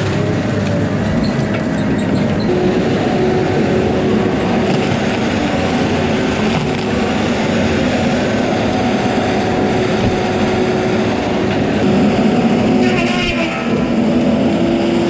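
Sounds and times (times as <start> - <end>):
constant hum: 0.0 - 15.0
diesel engine running: 0.0 - 15.0.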